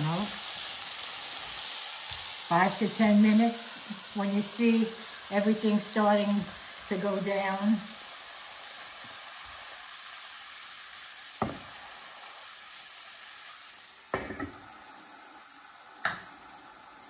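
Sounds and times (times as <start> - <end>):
mushrooms sizzling in oil: 0.0 - 17.0.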